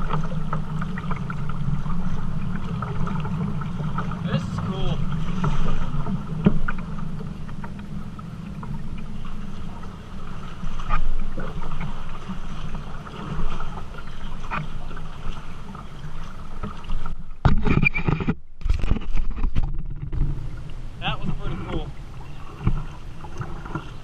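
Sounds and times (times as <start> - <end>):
rushing river water: 0.0 - 17.4, 20.1 - 24.0
paddle splashes: 0.0 - 24.0.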